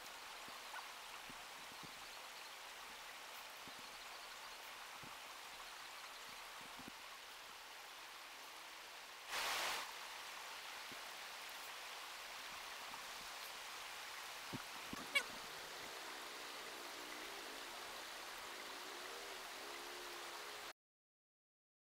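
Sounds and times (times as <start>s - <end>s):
stream water running over rocks: 0.0s - 20.7s.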